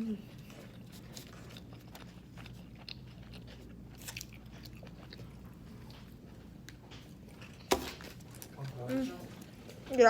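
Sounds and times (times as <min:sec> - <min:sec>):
person chewing food: 0:00.0 - 0:09.8.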